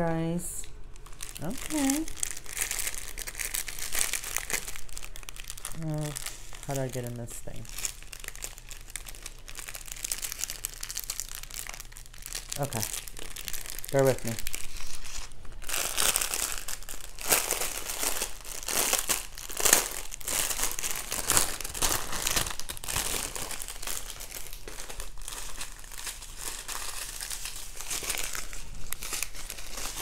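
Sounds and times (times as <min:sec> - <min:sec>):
plastic packaging crinkling: 0:00.8 - 0:30.0.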